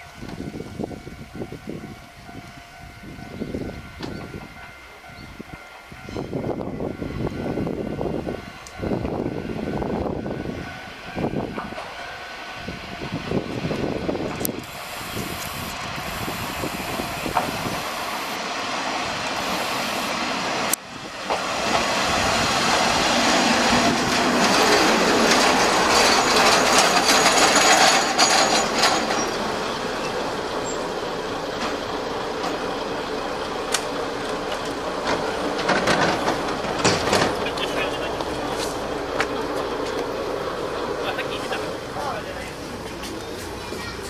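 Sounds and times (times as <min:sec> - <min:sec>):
diesel train engine: 0:00.0 - 0:44.0
train wheels on rails: 0:00.0 - 0:44.0.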